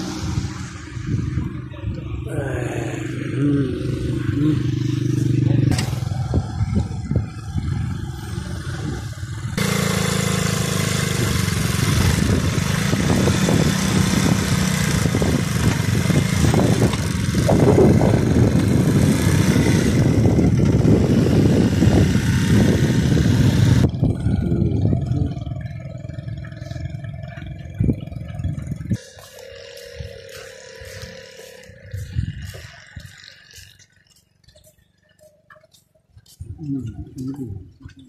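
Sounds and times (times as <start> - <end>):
small motorcycle engine: 0.0 - 35.6.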